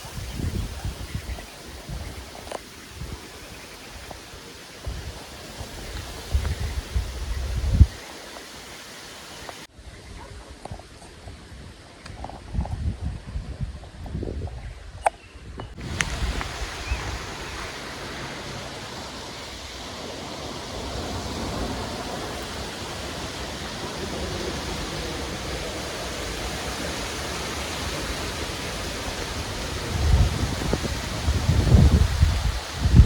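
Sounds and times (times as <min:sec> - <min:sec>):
wind gusts rumbling: 0:00.0 - 0:08.0, 0:09.9 - 0:33.0
steady rain: 0:00.0 - 0:09.7, 0:15.7 - 0:33.0.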